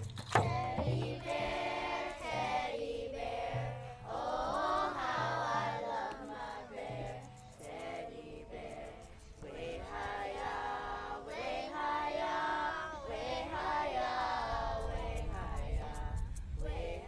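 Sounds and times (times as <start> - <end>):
girls singing in unison: 0.4 - 17.0.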